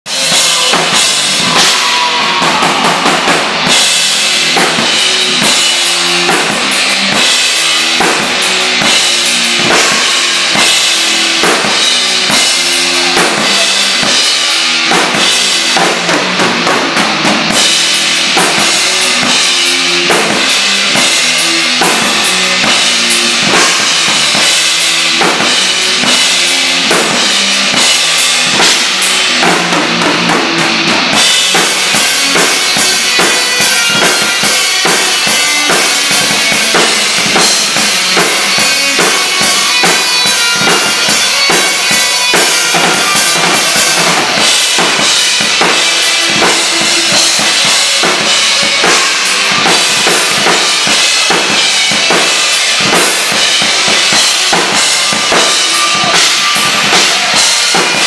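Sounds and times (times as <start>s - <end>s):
drum kit playing metal: 0.0s - 58.0s.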